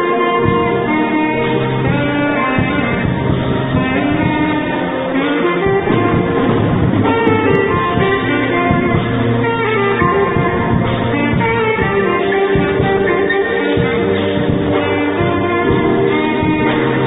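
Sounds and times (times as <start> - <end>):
low sustained bass notes: 0.0 - 17.0
saxophone melody: 0.0 - 17.0.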